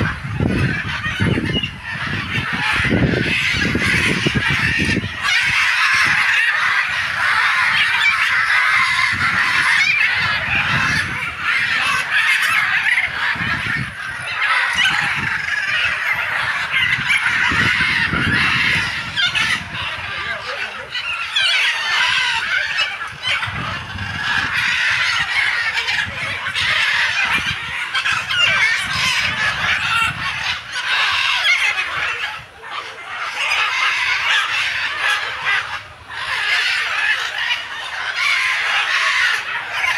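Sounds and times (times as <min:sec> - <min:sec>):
many birds calling: 0:00.0 - 0:39.9.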